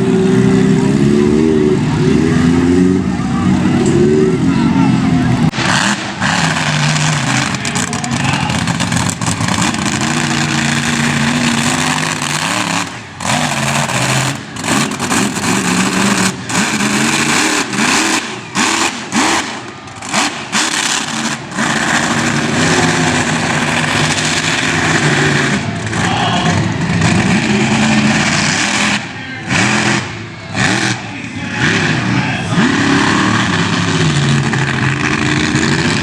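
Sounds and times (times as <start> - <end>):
truck engine revving loudly: 0.0 - 36.0.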